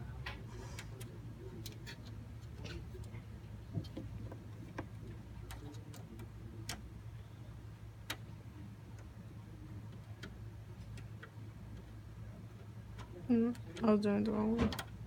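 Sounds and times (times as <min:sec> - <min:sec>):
steady low hum: 0:00.0 - 0:15.0
computer parts clicking and tapping: 0:00.2 - 0:07.0, 0:07.9 - 0:15.0.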